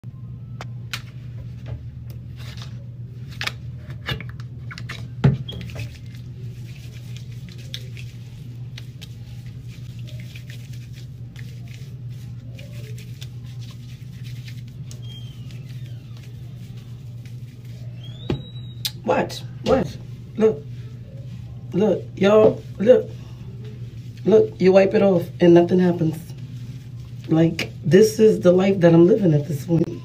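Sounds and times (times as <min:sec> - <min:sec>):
low steady hum: 0:00.0 - 0:30.0
hands squishing lather in hair: 0:04.6 - 0:19.2, 0:19.8 - 0:29.5.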